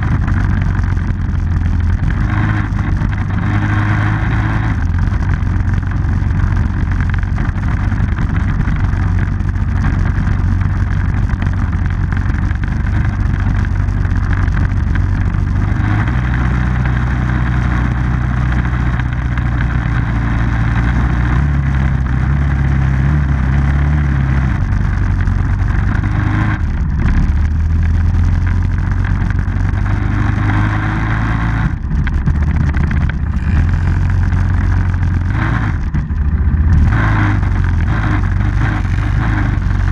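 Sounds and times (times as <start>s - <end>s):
constant rushing noise: 0.0s - 39.9s
off-road vehicle engine running: 0.0s - 39.9s.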